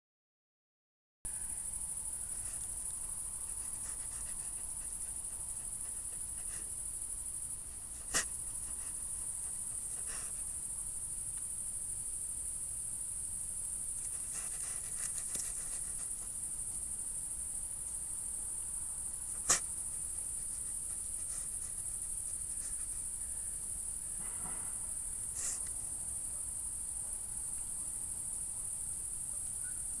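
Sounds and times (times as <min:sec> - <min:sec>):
crickets chirring: 0:01.3 - 0:30.0.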